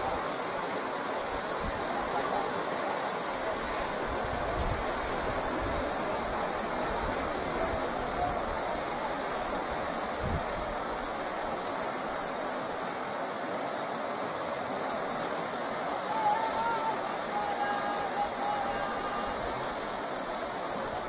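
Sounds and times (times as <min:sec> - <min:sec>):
river rapids rushing over rocks: 0:00.0 - 0:21.0.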